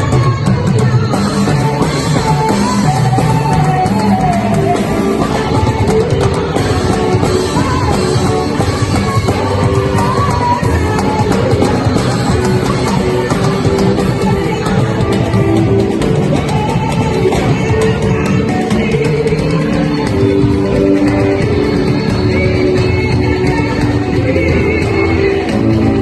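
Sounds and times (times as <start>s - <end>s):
loud music with singing: 0.0s - 26.0s.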